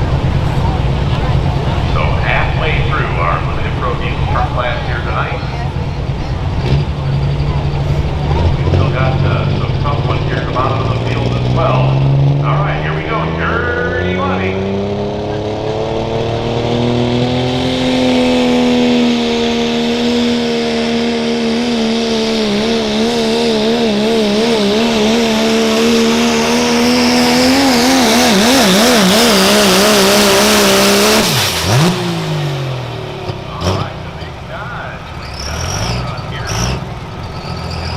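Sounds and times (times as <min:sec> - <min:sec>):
diesel truck engine at full throttle: 0:00.0 - 0:37.9.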